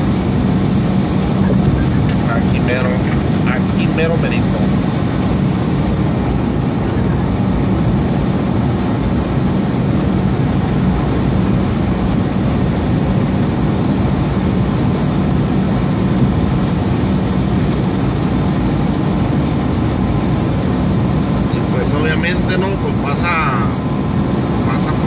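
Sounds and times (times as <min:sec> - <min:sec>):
diesel engine and road noise: 0:00.0 - 0:25.0.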